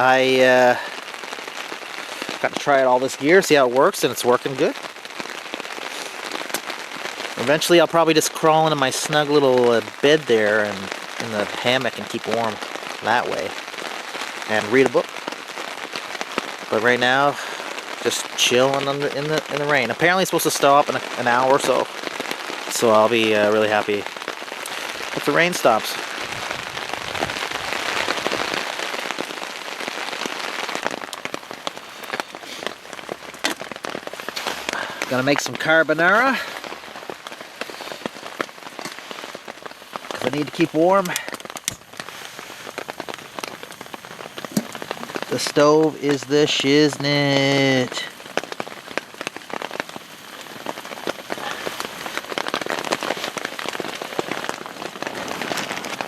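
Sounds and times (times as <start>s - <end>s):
rain hissing on a tarp: 0.0s - 56.0s
raindrops ticking on fabric: 0.0s - 56.0s.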